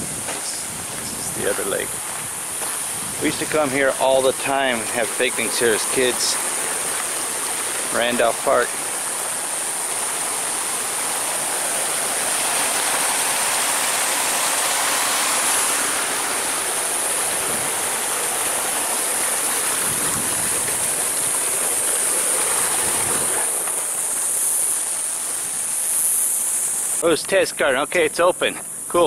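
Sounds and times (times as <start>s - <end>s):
waterfall rushing and splashing: 0.0s - 27.0s
high-pitched hiss: 0.0s - 29.0s.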